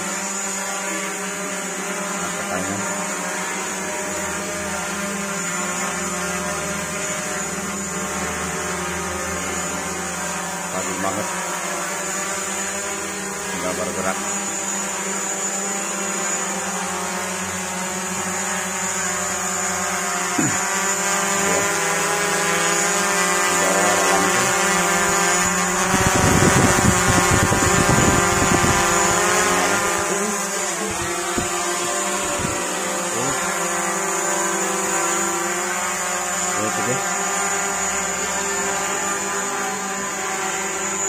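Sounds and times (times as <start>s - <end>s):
quadcopter propellers buzzing: 0.0s - 41.0s.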